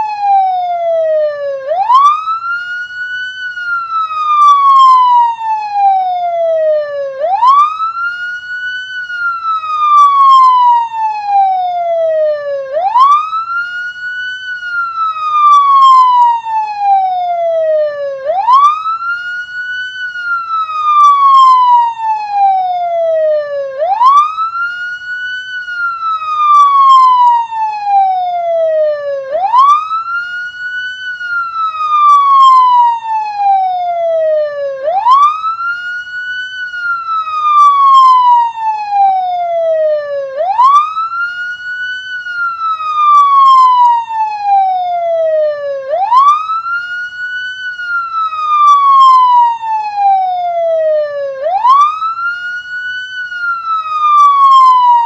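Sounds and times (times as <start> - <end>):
police siren wailing: 0.0 - 55.0.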